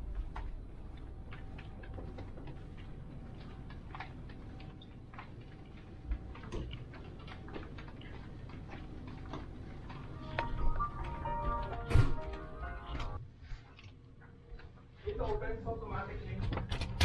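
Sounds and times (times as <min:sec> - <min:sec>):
soft footsteps on carpet: 0:00.0 - 0:15.4
low steady hum: 0:00.0 - 0:17.0.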